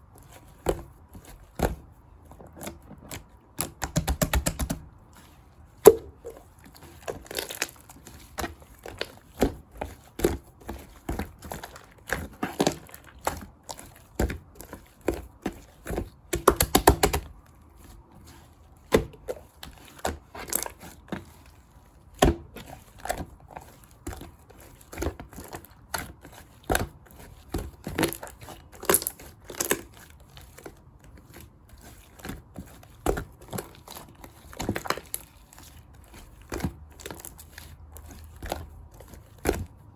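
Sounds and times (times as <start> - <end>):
slime crackling and squishing: 4.8 - 39.9.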